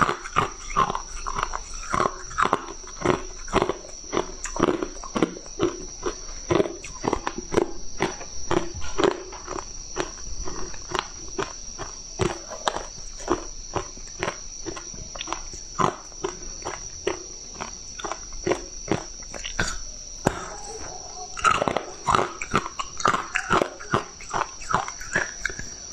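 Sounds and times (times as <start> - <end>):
ice being chewed: 0.0 - 25.9.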